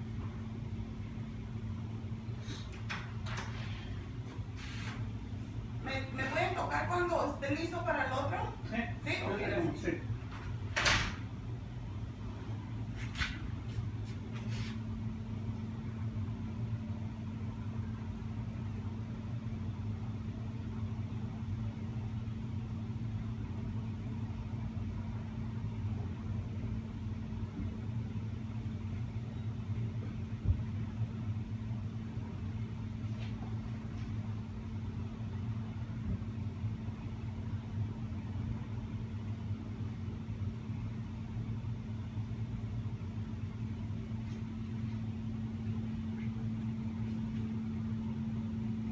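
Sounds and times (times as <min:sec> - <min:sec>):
machine hum with tones: 0:00.0 - 0:48.9.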